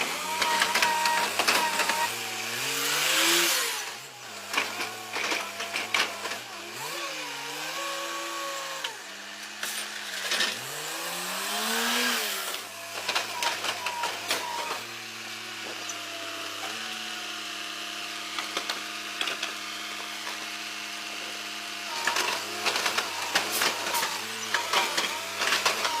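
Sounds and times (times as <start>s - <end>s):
garbage truck engine revving: 0.0s - 26.0s.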